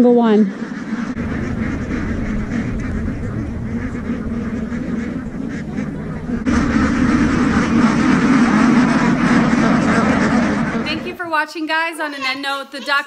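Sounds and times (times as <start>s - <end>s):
flock of ducks quacking: 0.0s - 13.0s.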